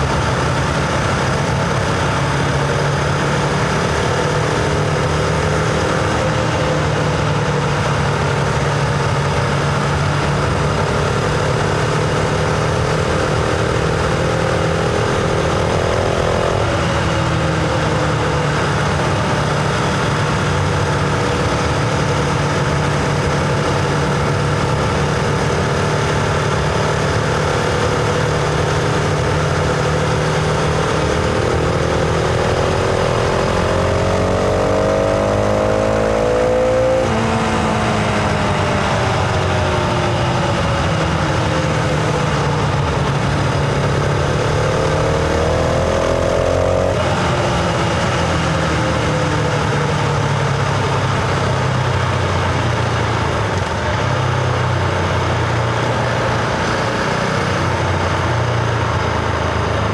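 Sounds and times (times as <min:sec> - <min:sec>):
motorcycle engine: 0:00.0 - 0:59.9
steady rushing noise: 0:00.0 - 0:59.9.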